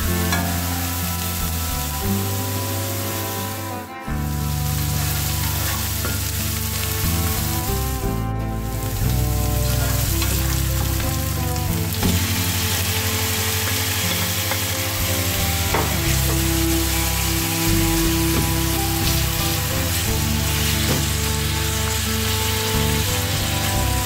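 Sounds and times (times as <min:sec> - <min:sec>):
background music: 0:00.0 - 0:24.0
onions sizzling in a pan: 0:00.0 - 0:24.0.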